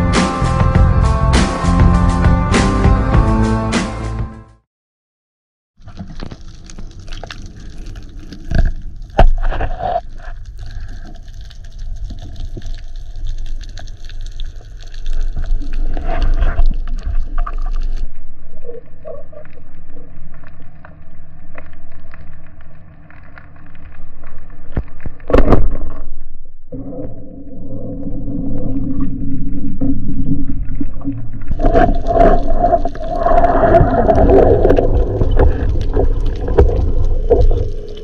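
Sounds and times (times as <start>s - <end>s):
clicks and knocks underwater: 5.8s - 27.3s, 27.9s - 38.0s
underwater water wash: 5.8s - 38.0s.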